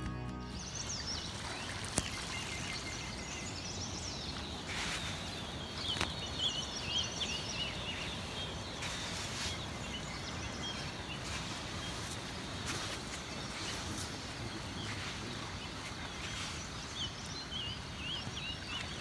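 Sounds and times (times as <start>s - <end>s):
birds chirping and warbling: 0.4s - 19.0s
background hiss: 0.6s - 19.0s.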